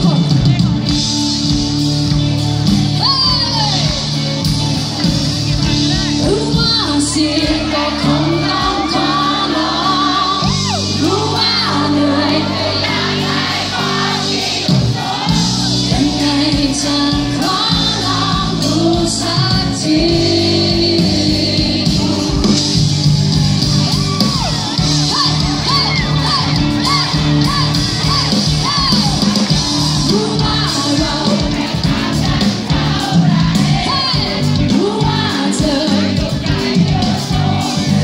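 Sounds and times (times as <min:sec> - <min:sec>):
live band with singer: 0:00.0 - 0:38.0.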